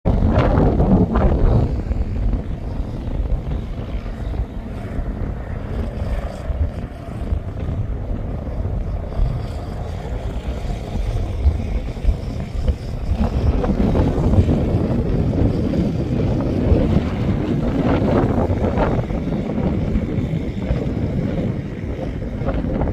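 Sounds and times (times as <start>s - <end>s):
wind buffeting microphone: 0.0s - 22.9s
off-road vehicle engines: 0.1s - 22.9s.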